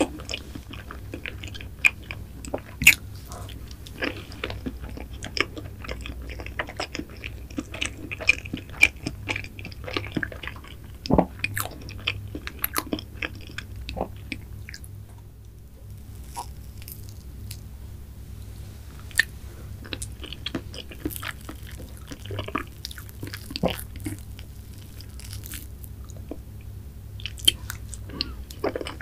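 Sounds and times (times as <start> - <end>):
person chewing cake: 0.0 - 15.0, 15.8 - 17.7, 18.9 - 29.0.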